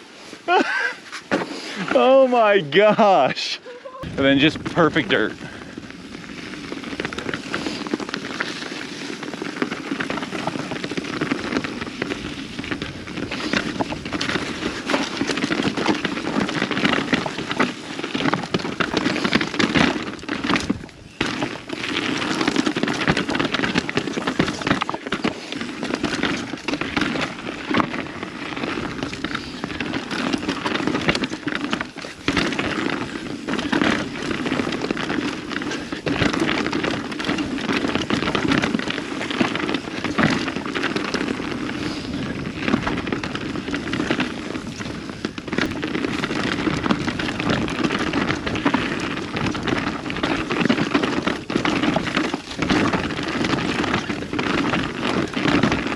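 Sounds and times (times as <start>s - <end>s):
tyres crackling over gravel: 0.0s - 55.9s
bike rattling over bumps: 4.1s - 55.9s.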